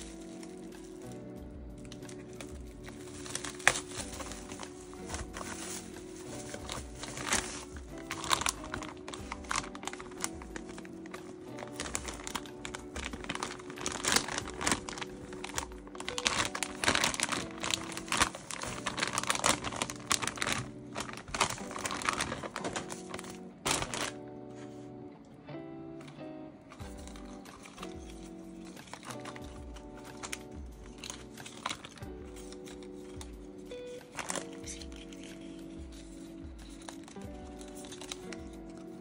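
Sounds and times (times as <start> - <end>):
plastic packaging crinkling: 0.0 - 24.8, 26.0 - 39.0
background music: 0.0 - 39.0.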